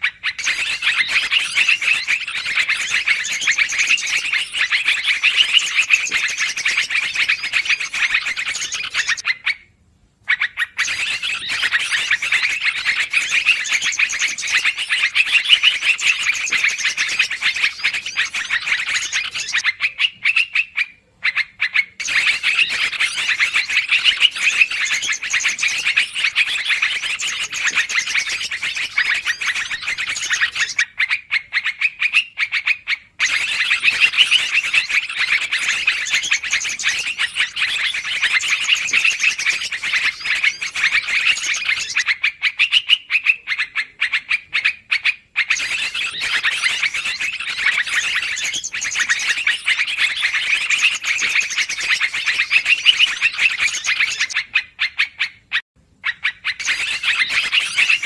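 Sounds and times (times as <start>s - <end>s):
bird agitated chattering calls: 0.0s - 9.6s, 10.3s - 58.0s.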